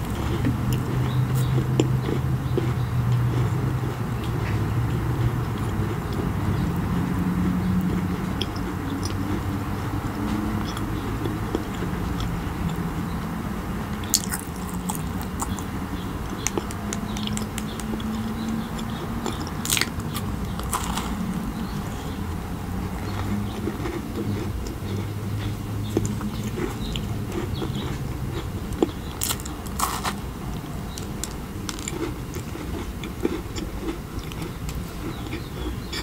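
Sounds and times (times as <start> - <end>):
soft chewing: 0.0 - 36.0.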